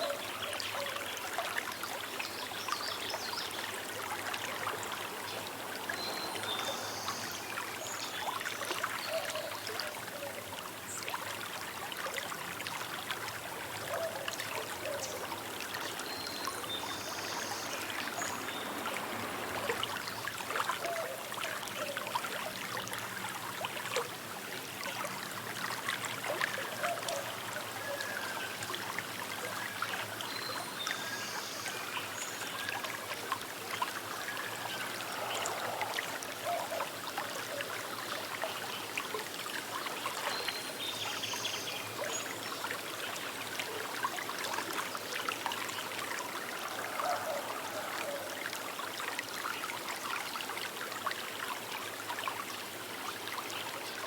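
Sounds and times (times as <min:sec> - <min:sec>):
river water trickling and gurgling: 0:00.0 - 0:54.0.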